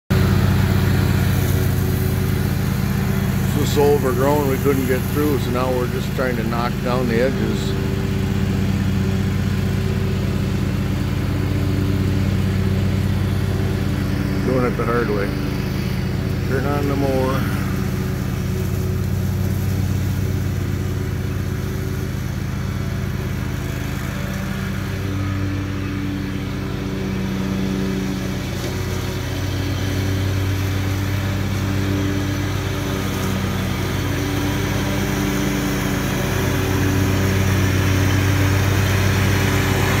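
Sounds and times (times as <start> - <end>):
riding mower running: 0.0 - 40.0.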